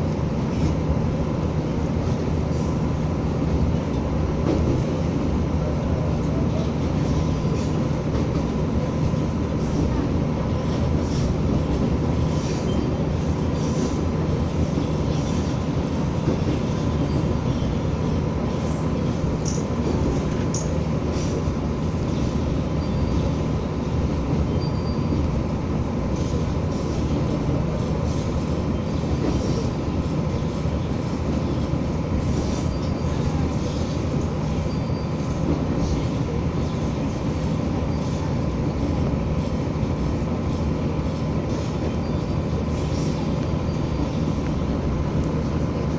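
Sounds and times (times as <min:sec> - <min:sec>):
railcar engine and wheels rumbling: 0:00.0 - 0:45.9.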